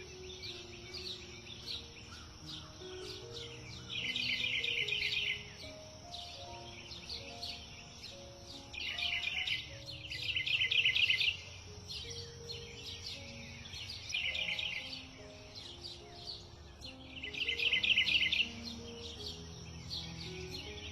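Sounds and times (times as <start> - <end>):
soft slow background music: 0.0 - 20.9
songbirds chirping: 0.0 - 20.9.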